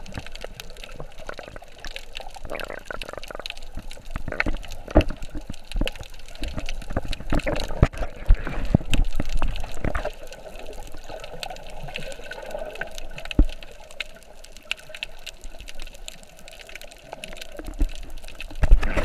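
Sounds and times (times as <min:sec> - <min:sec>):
faint scattered clicks underwater: 0:00.0 - 0:19.0
water sloshing and bubbling: 0:00.0 - 0:19.0.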